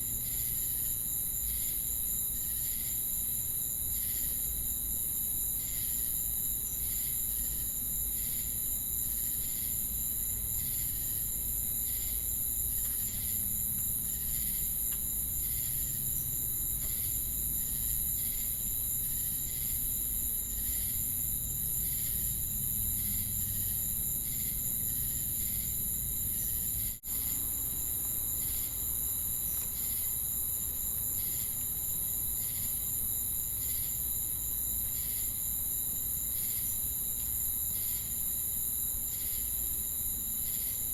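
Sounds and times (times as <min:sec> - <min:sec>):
crickets and cicadas chirping: 0:00.0 - 0:40.9.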